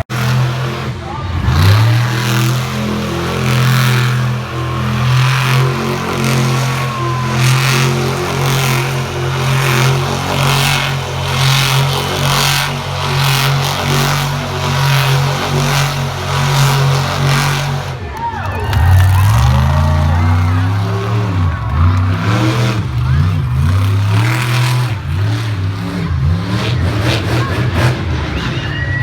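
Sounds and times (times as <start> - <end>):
truck engine revving high: 0.0 - 29.0.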